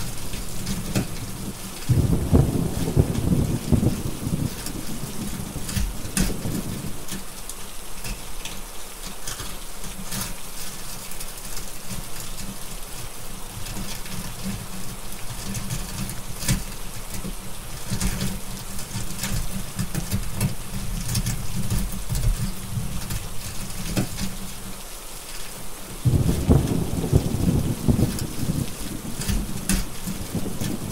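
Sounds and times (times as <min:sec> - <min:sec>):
steady rain: 0:00.0 - 0:30.9
wood fire crackling and popping: 0:00.0 - 0:30.9.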